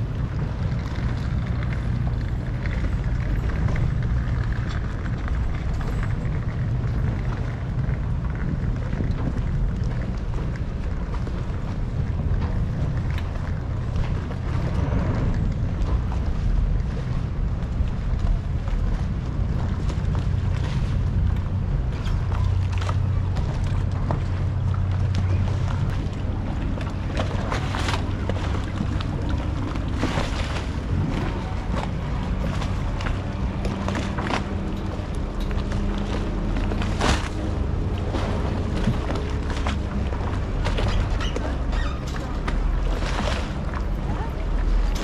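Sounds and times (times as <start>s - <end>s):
motorboat engine droning: 0.0s - 45.0s.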